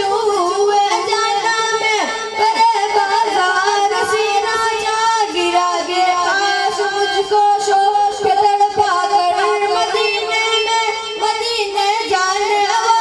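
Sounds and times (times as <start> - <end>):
boy singing over loudspeaker: 0.0 - 13.0.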